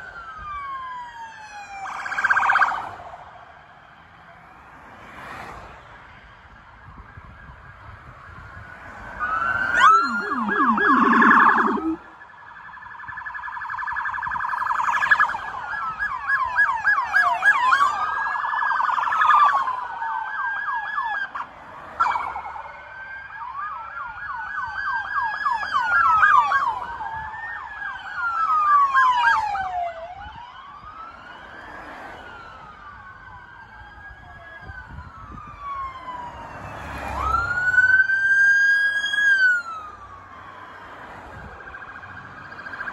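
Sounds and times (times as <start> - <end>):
police sirens wailing and yelping: 0.0 - 5.1, 6.1 - 42.9.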